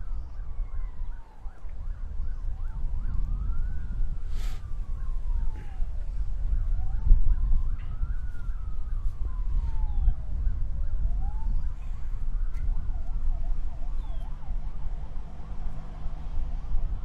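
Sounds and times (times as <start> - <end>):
emergency vehicle siren: 0.0 - 17.0.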